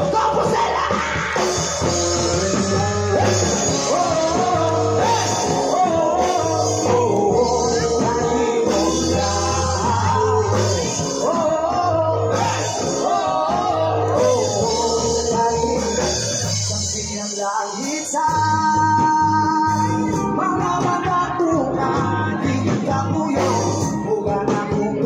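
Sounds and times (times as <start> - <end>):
bass holding low notes: 0.0 - 17.2, 18.2 - 25.0
live rock band playing: 0.0 - 25.0
man singing: 0.0 - 25.0.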